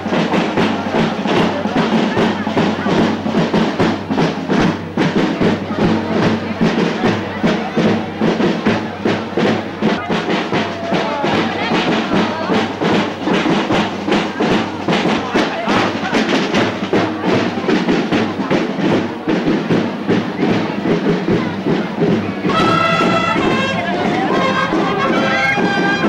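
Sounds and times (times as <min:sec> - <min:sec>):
crowd voices: 0:00.0 - 0:26.0
drums beating: 0:00.0 - 0:26.0
festive procession music: 0:00.0 - 0:26.0.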